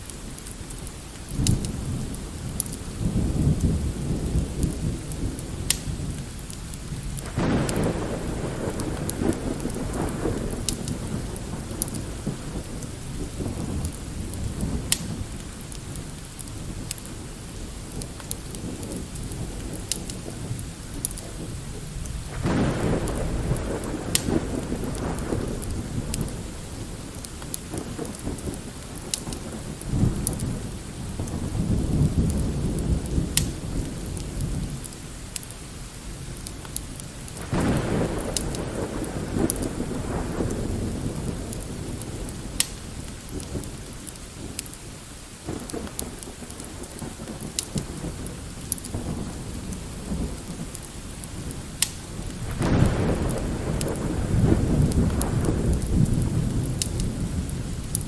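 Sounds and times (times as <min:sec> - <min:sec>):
light rain: 0:00.0 - 0:58.0
rolling thunder: 0:00.8 - 0:58.0.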